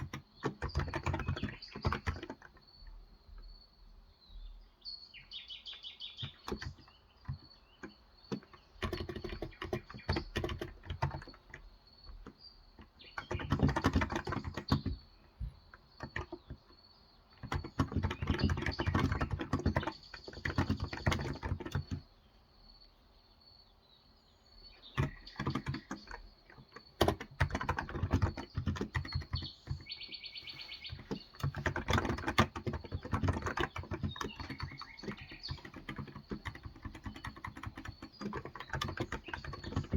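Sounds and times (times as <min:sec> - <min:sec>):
keyboard typing: 0:00.0 - 0:03.0, 0:06.2 - 0:22.1, 0:25.0 - 0:39.9
birds chirping: 0:00.0 - 0:39.9.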